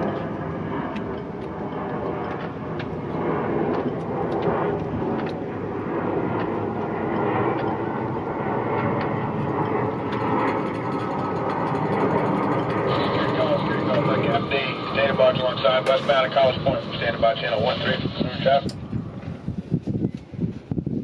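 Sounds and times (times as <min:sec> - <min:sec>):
jet airliner flying overhead: 0:00.0 - 0:21.0.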